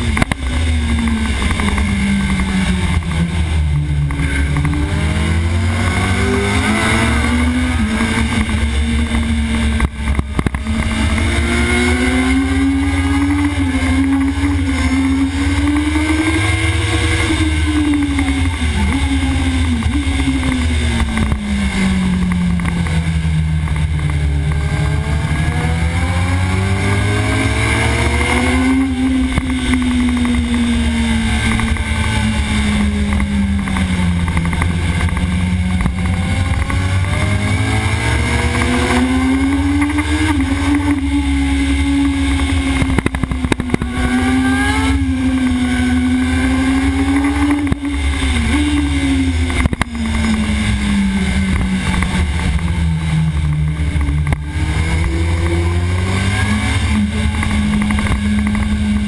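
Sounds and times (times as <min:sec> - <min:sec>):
heavy low rumble: 0:00.0 - 0:59.0
motorcycle engine running hard: 0:00.0 - 0:59.0.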